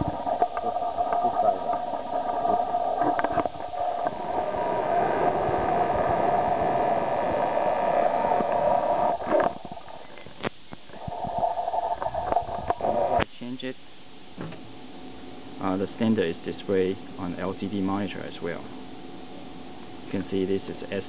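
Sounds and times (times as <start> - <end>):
cooling fans whirring: 0.0 - 21.0
steady tones: 0.0 - 21.0.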